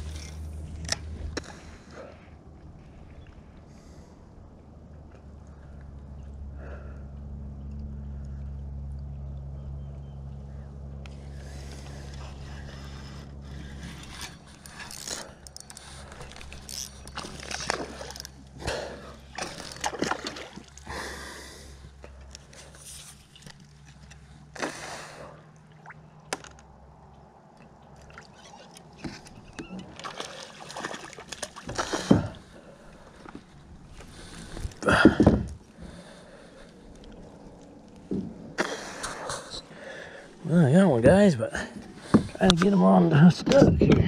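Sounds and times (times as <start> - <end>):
water splashing around a kayak: 0.0 - 40.4
low steady hum: 0.0 - 44.0.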